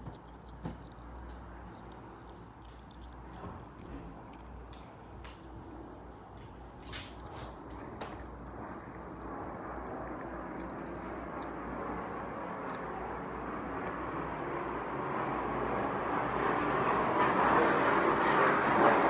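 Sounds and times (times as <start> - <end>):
aircraft engine rumble: 0.0 - 19.0.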